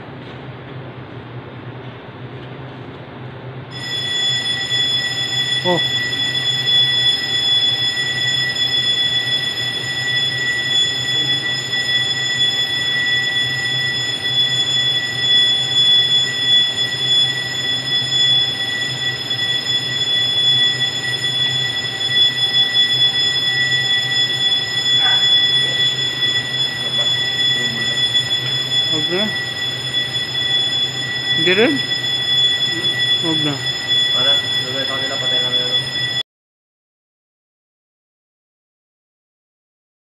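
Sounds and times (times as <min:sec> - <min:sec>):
fire alarm high-pitched tone: 0:03.7 - 0:36.2.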